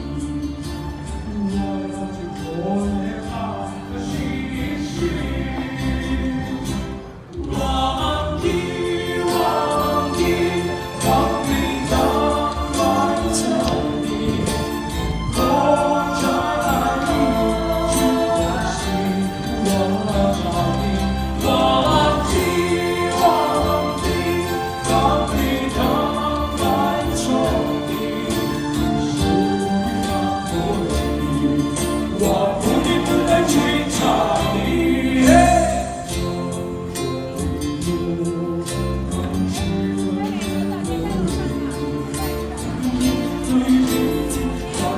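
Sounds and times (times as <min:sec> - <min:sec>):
choir singing: 0:00.0 - 0:39.0, 0:42.9 - 0:44.9.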